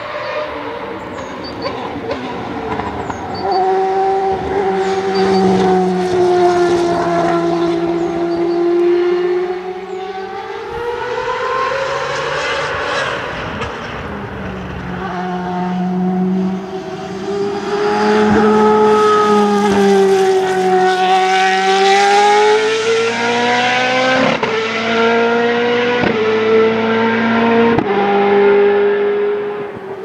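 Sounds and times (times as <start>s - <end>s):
race car engine at speed: 0.0s - 30.0s.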